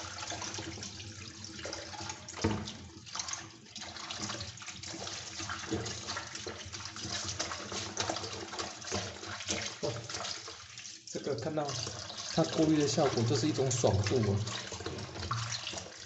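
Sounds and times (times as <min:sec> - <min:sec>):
tap water running and splashing: 0:00.0 - 0:16.0.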